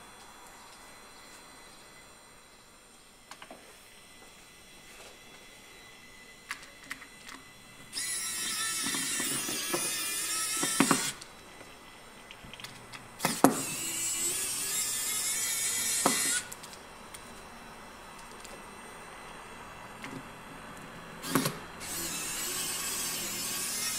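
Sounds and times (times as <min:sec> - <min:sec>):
hard drive whine-screech: 0:00.0 - 0:23.9.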